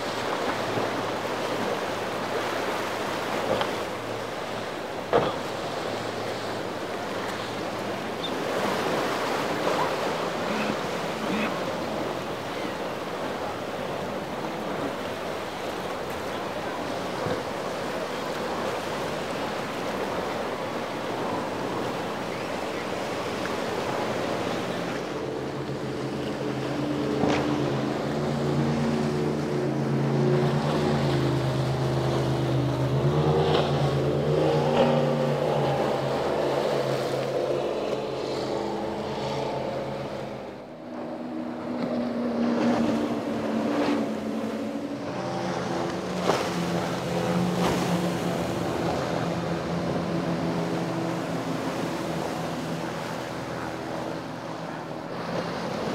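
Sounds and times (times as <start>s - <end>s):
boat engines droning: 0.0s - 55.9s
waves: 0.0s - 55.9s
wind: 0.0s - 55.9s.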